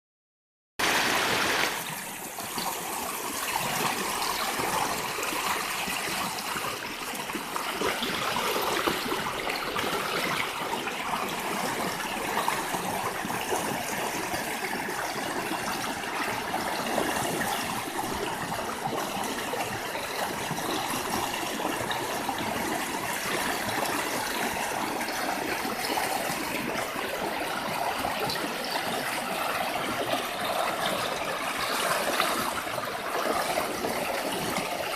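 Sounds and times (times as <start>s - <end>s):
stream rushing over rocks: 0.8s - 34.9s.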